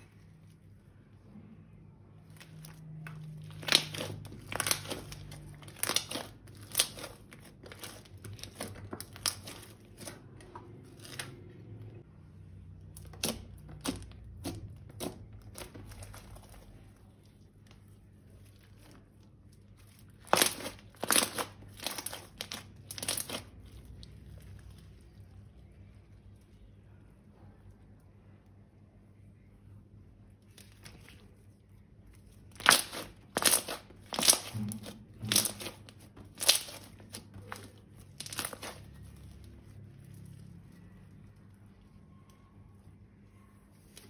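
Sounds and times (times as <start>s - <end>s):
faint low hum: 0.0s - 44.0s
material crinkling and crackling: 2.2s - 12.1s, 12.8s - 27.0s, 30.4s - 44.0s.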